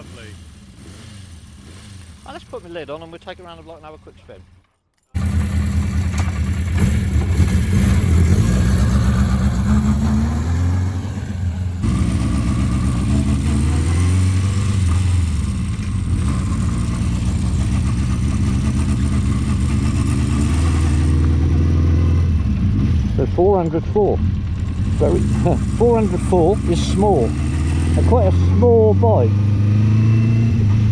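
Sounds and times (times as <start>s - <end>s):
motorcycle engine revving: 0.0s - 4.6s, 5.2s - 30.9s.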